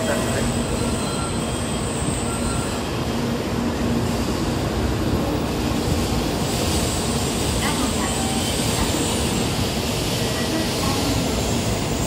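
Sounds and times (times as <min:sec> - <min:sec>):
train running noise: 0:00.0 - 0:12.0.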